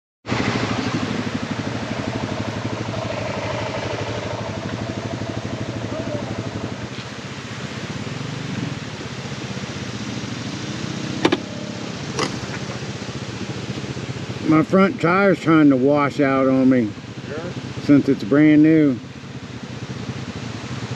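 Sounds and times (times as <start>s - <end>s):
motorcycle engine running: 0.2s - 20.9s.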